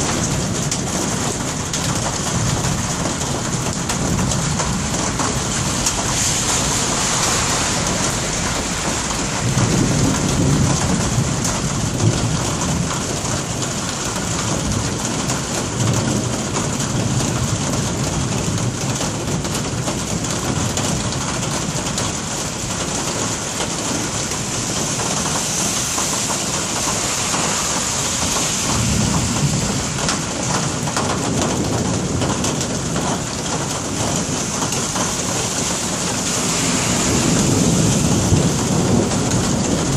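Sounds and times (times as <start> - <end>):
steady rain hiss: 0.0 - 18.5, 19.2 - 39.9
thunder rumbling: 0.0 - 39.9.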